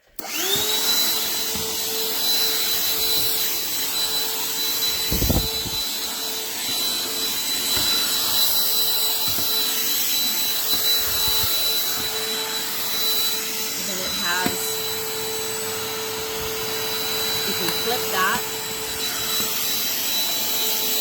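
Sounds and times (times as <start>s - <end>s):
handheld vacuum motor whining: 0.0s - 21.0s.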